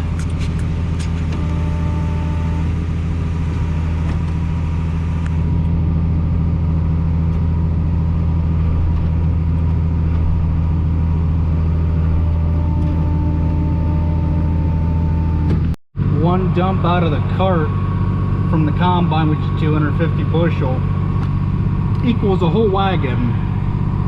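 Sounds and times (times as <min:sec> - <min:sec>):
tractor engine running under load: 0:00.0 - 0:24.0.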